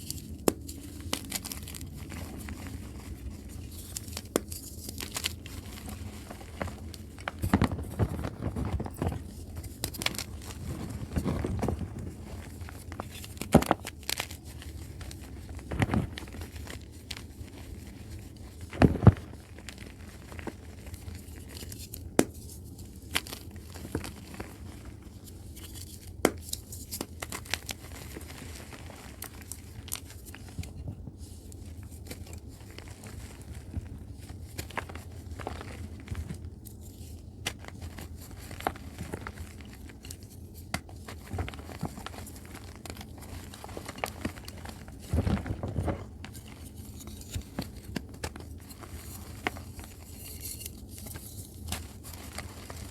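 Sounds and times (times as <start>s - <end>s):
chalk crumbling and crunching: 0.0s - 52.9s.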